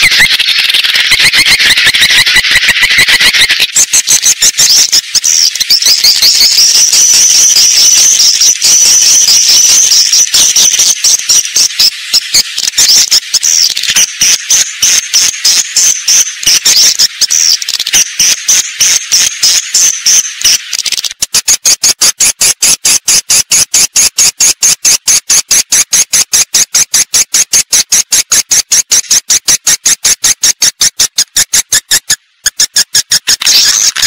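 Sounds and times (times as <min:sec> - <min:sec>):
high twittering bird chirps: 0:00.0 - 0:34.0
sharp clicking pulses: 0:00.0 - 0:34.0.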